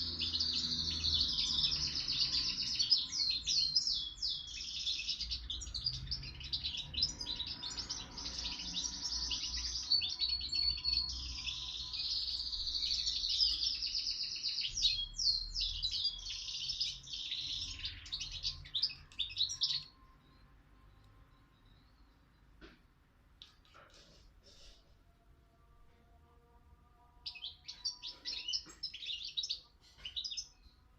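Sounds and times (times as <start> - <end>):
songbird chirping and trilling: 0.0 - 22.6, 23.4 - 30.9.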